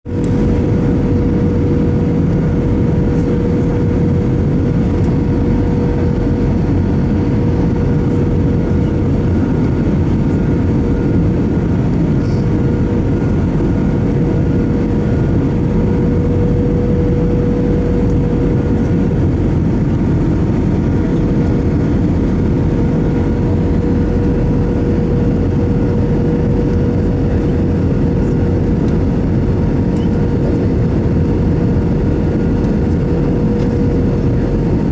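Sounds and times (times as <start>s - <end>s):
aircraft cabin engine roar: 0.0s - 34.9s
constant mid-pitched hum: 0.1s - 34.9s.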